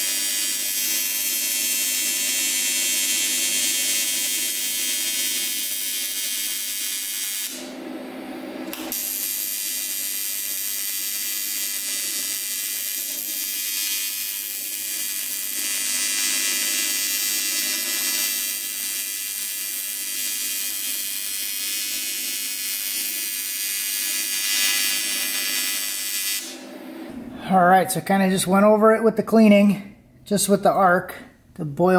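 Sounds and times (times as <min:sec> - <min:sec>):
welding arc buzzing hiss: 0:00.0 - 0:07.9, 0:08.6 - 0:27.2.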